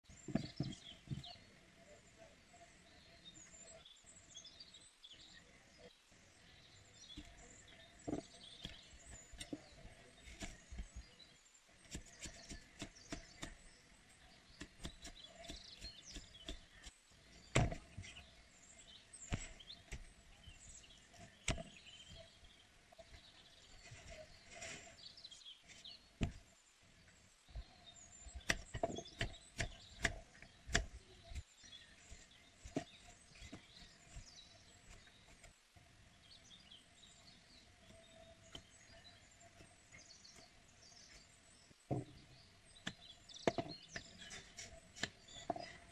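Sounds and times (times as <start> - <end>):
faint birds chirping: 0.0 - 45.9.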